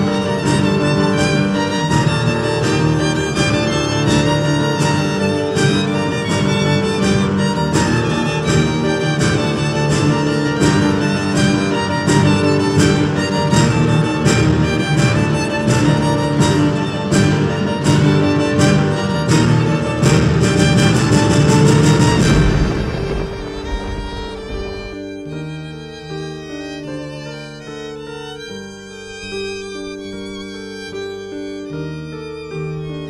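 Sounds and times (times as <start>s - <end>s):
bowed string melody over beat: 0.0s - 33.0s.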